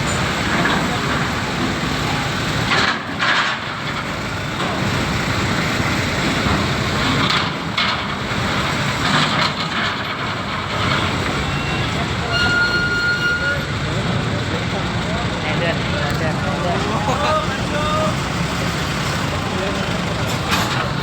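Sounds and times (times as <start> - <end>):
diesel engines rumbling: 0.0 - 21.0.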